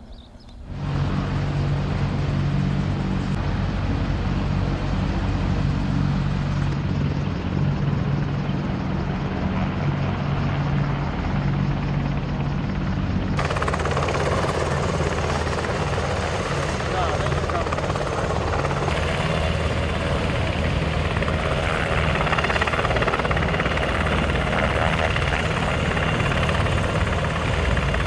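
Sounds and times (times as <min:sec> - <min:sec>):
helicopter rotors and engines: 0:00.0 - 0:28.0.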